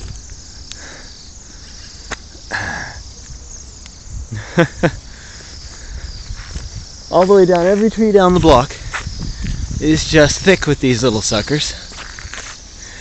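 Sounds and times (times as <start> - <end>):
flock of birds trilling: 0.0 - 13.0.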